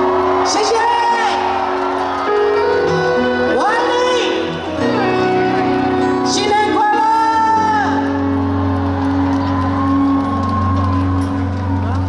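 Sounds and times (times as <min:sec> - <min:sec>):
live pop band with singing: 0:00.0 - 0:12.0.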